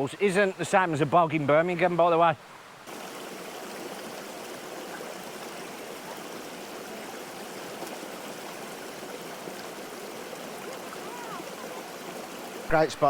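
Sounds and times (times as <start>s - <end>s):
stream babbling over rocks: 0.0s - 13.0s.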